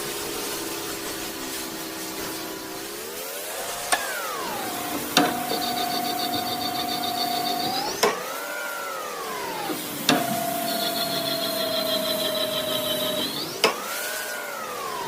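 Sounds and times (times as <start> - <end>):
machine motor whine: 0.0 - 15.0.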